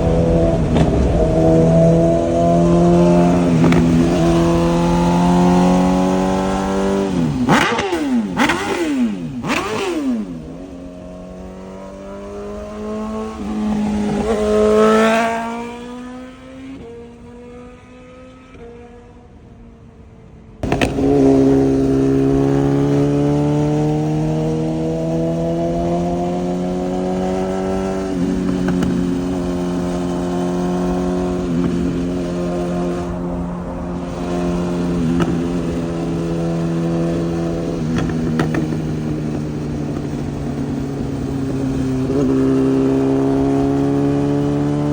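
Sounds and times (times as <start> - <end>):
motorcycle engine revving: 0.0 - 19.1, 20.6 - 44.9.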